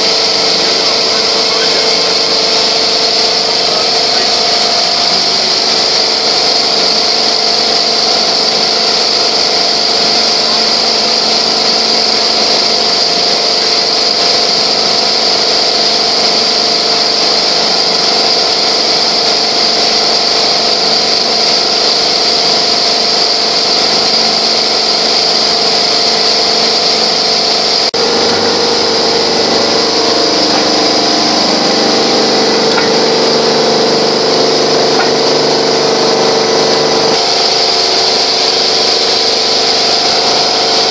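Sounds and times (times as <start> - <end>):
quilting machine running: 0.0 - 40.9.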